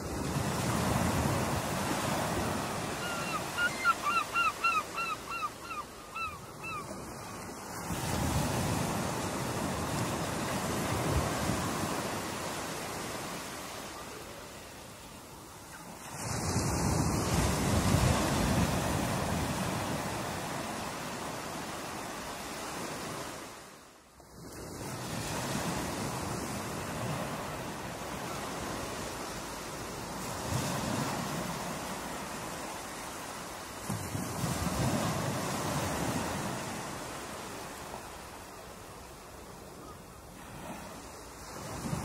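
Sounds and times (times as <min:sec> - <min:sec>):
ocean waves breaking: 0:00.0 - 0:42.0.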